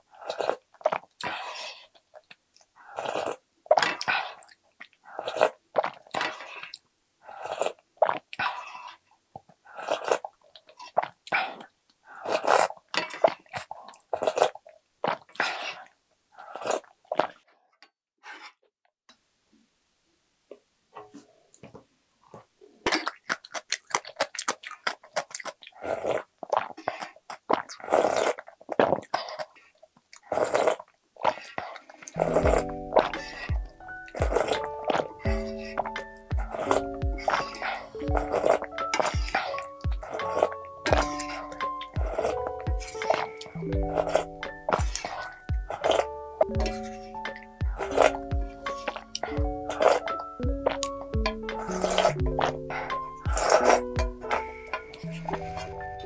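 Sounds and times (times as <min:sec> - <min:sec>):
person slurping and chewing: 0:00.0 - 0:09.1, 0:09.7 - 0:17.4, 0:22.9 - 0:56.0.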